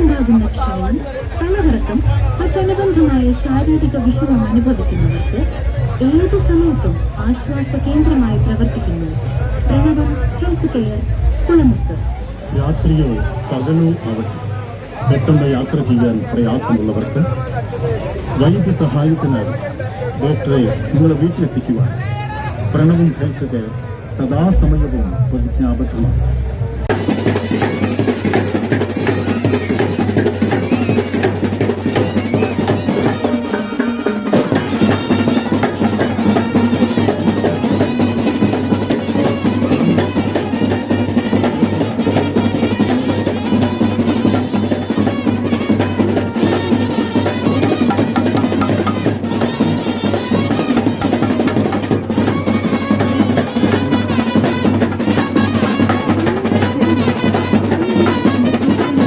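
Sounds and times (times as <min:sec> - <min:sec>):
loud festival drumming: 0:00.0 - 0:59.0.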